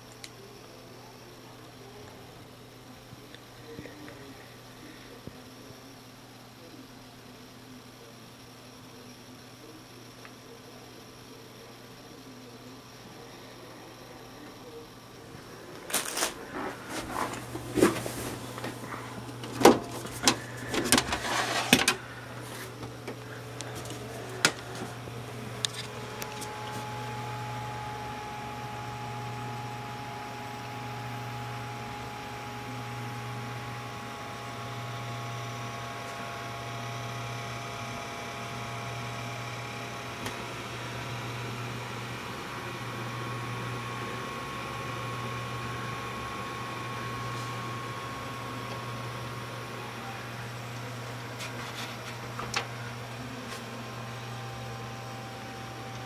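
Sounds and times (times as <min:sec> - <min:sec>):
computer fans whirring: 0:08.8 - 0:56.0.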